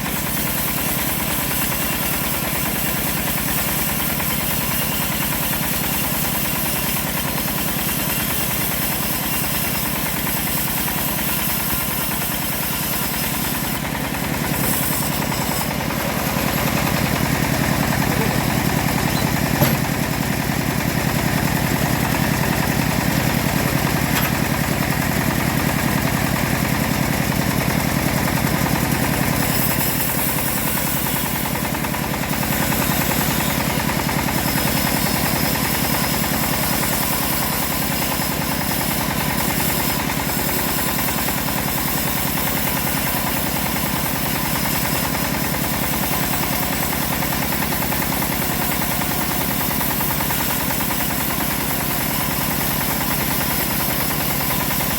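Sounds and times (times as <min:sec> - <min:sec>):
engine-driven bandsaw mill sawing wood: 0:00.0 - 0:54.9.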